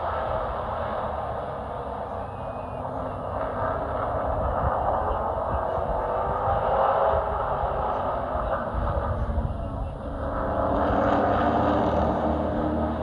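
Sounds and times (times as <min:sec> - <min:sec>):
race truck engine drone: 0:00.0 - 0:13.0.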